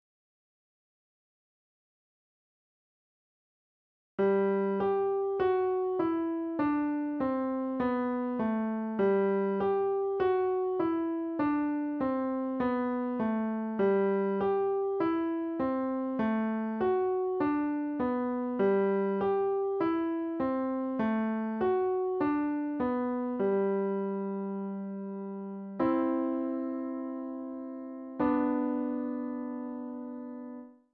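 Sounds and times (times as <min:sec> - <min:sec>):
slow piano piece: 0:04.2 - 0:30.9.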